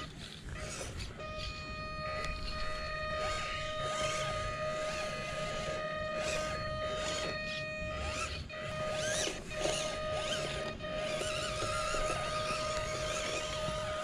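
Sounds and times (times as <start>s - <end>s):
toy car motor whining: 0.0s - 14.0s.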